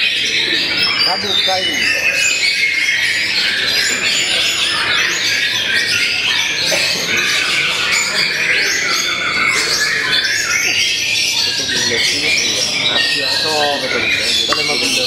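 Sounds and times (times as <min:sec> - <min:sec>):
birds singing whistled phrases: 0:00.0 - 0:15.0.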